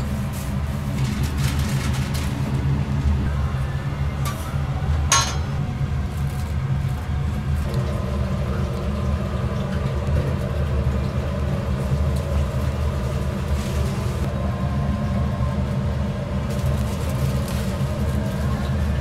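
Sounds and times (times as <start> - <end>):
machine running rumble: 0.0 - 19.0.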